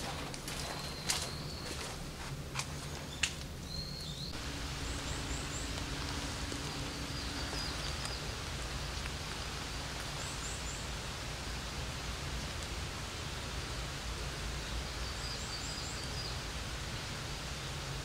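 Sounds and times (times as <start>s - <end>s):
woodland ambience hiss: 0.0s - 18.0s.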